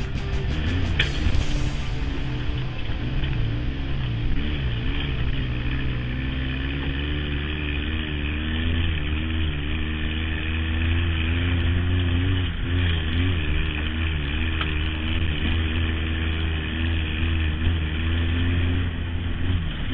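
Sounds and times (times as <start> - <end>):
dune buggy engine running: 0.0 - 19.9.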